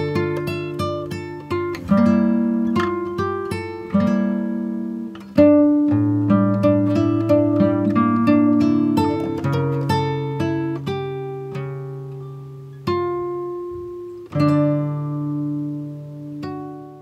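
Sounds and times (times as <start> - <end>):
gently plucked string music: 0.0 - 17.0.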